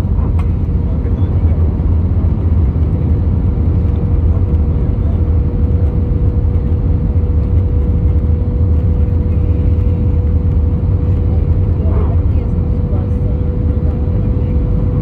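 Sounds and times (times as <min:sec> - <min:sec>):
jet engine and airflow roar: 0:00.0 - 0:15.0
steady cabin hum: 0:00.0 - 0:15.0.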